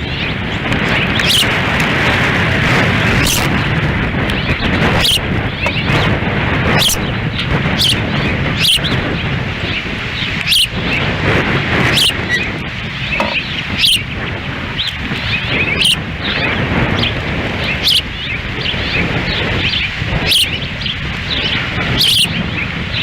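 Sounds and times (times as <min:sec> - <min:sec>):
ospreys chirping: 0:00.0 - 0:23.0
wind noise on microphone: 0:00.0 - 0:23.0.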